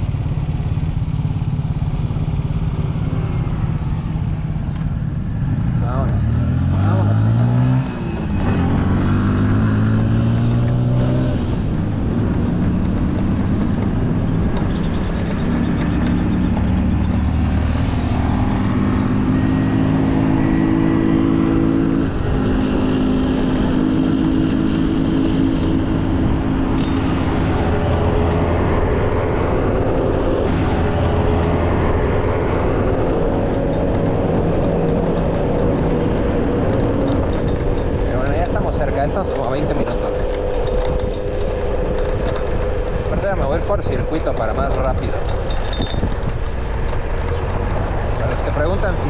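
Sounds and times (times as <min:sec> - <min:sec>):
car engines accelerating: 0:00.0 - 0:49.0
road noise rumble: 0:00.0 - 0:49.0.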